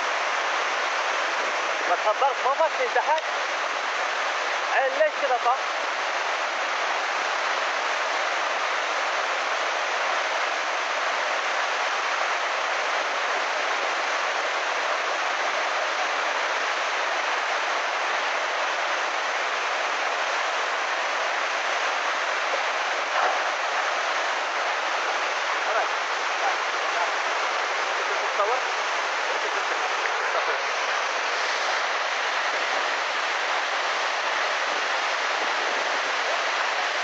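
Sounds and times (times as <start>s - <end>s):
floodwater rushing: 0.0s - 37.0s.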